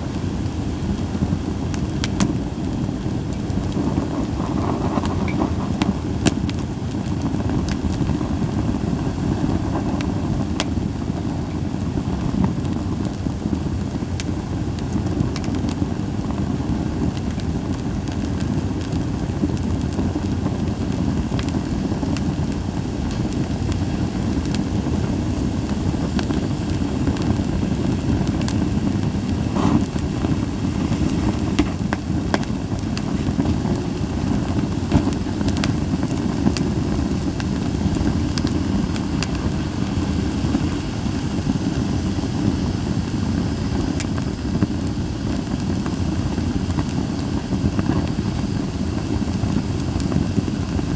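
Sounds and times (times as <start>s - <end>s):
campfire burning: 0.0s - 50.9s
fire crackling and popping: 0.0s - 50.9s.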